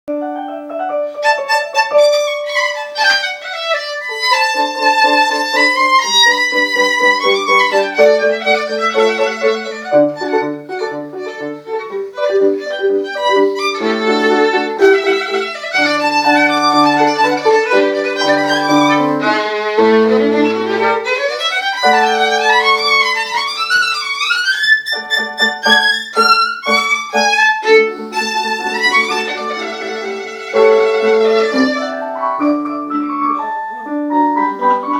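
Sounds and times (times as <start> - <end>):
piano notes and chords: 0.1 - 34.9
bowed violin melody: 0.6 - 34.9.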